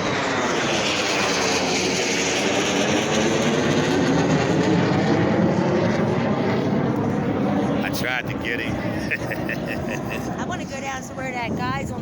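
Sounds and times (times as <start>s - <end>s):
airplane engine passing: 0.0s - 12.0s.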